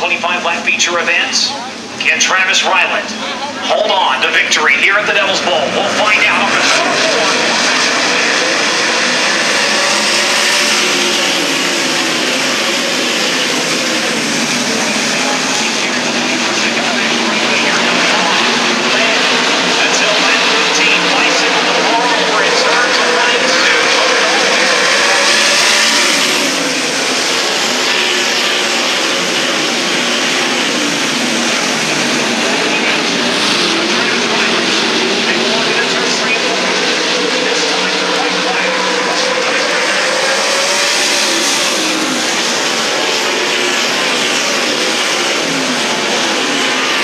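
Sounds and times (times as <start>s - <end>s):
racing car engines at full throttle: 0.0s - 47.0s.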